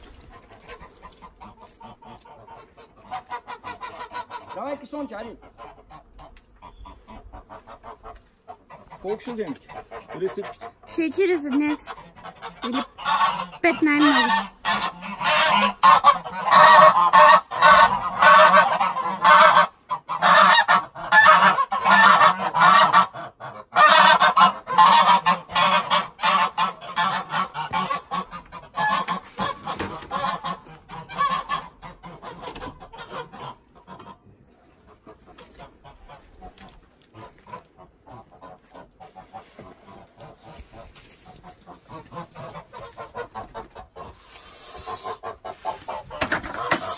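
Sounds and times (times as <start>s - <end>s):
geese honking: 0.0s - 46.9s.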